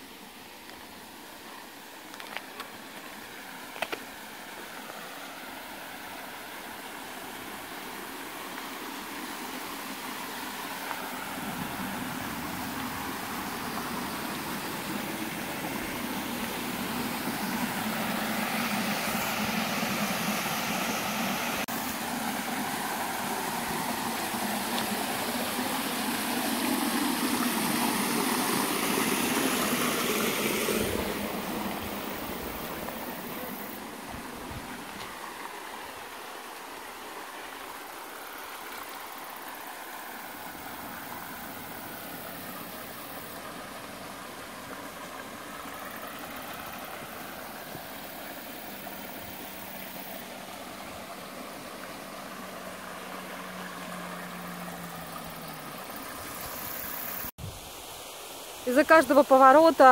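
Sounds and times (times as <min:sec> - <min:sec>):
water rushing over small waterfalls: 0:00.0 - 0:59.9.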